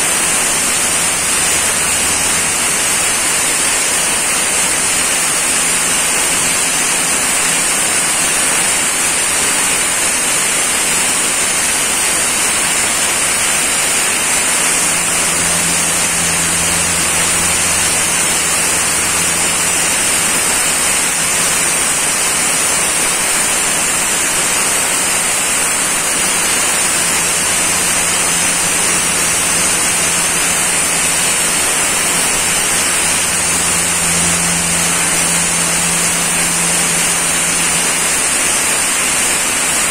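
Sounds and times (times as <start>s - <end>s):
low hum: 0.0s - 39.9s
sandblaster hissing: 0.0s - 39.9s.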